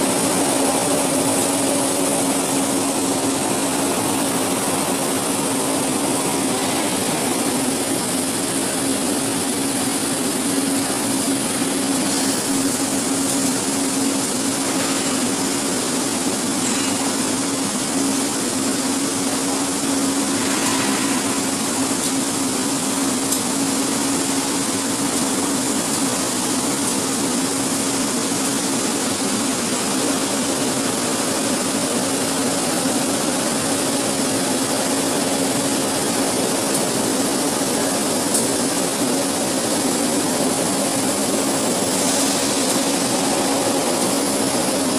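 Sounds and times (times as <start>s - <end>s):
low machine hum: 0.0s - 44.9s.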